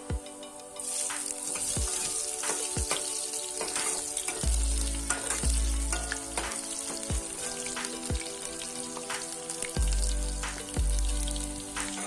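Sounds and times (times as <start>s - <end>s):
onion sizzling in hot oil: 0.2s - 12.0s.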